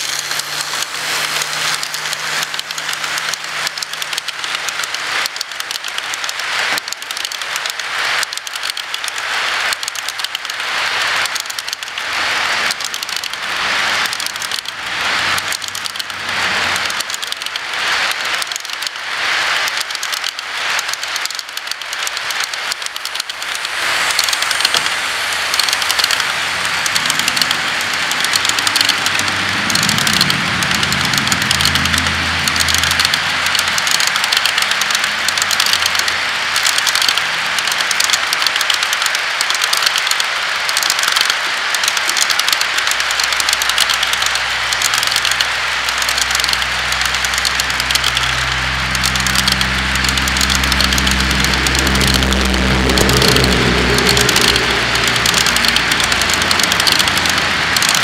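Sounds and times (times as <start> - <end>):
low motor hum: 0.0 - 36.6, 42.7 - 58.0
model train wheels clattering: 0.0 - 58.0.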